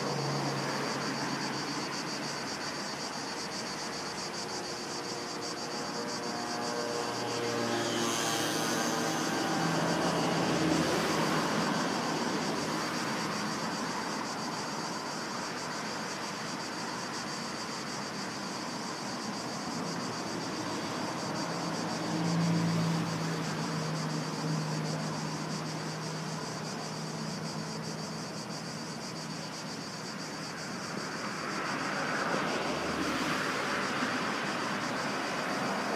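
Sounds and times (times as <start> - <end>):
vehicles passing: 0.0 - 14.8, 19.4 - 29.4, 30.0 - 35.9
high drone of insects: 0.0 - 35.9.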